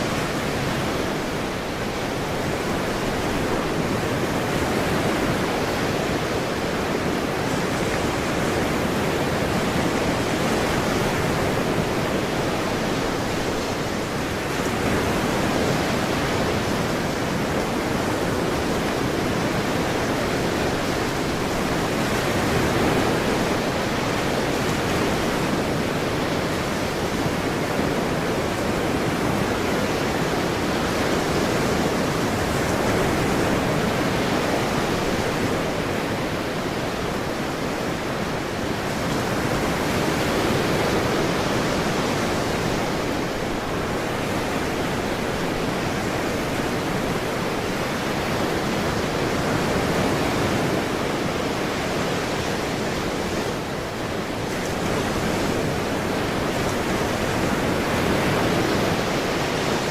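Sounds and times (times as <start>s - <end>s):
ocean surf washing: 0.0s - 59.9s.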